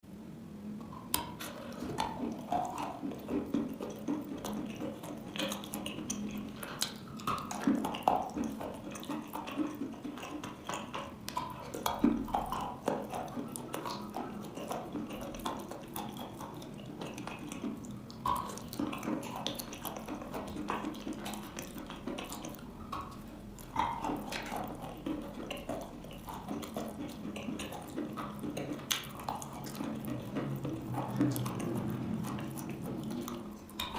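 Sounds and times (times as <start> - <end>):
person chewing chalk: 0.7 - 33.9.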